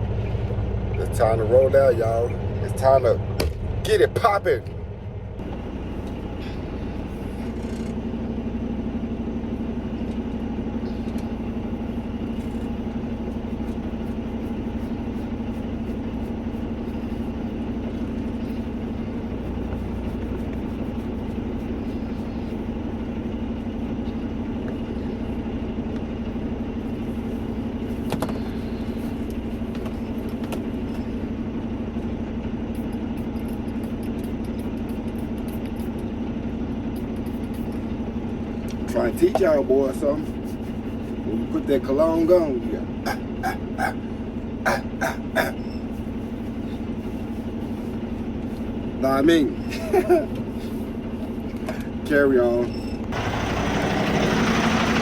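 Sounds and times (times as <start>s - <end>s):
truck engine humming: 0.0s - 55.0s.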